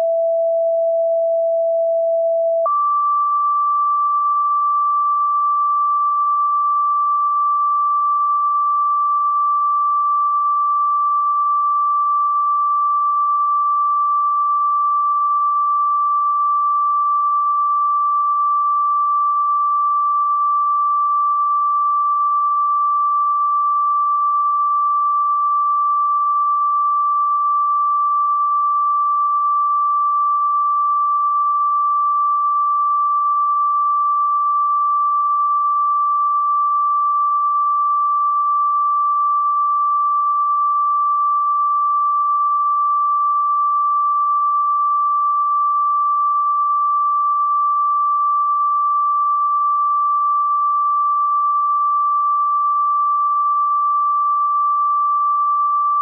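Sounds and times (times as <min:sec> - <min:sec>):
steady high sine tone: 0:00.0 - 0:56.0.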